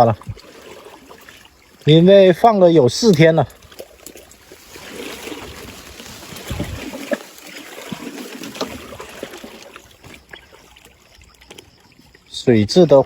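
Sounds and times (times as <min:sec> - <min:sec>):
stream water splashing and trickling: 0:00.0 - 0:13.0.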